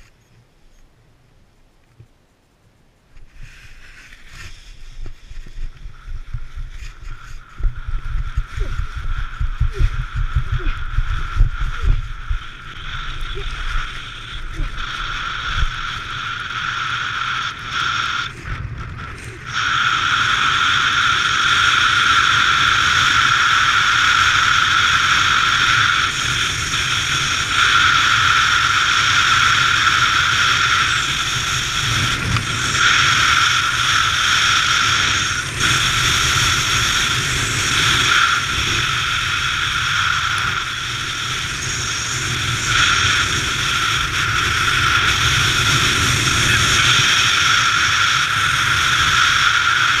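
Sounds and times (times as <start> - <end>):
rushing wind over camera: 1.8 - 50.0.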